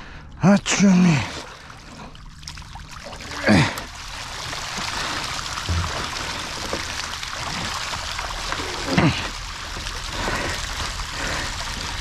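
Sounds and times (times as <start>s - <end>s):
water streaming off fish trap: 1.1s - 12.0s.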